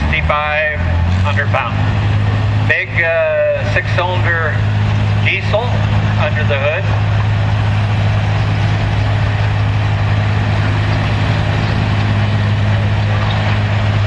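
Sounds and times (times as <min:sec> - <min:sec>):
diesel tractor engine under load: 0:00.0 - 0:14.0.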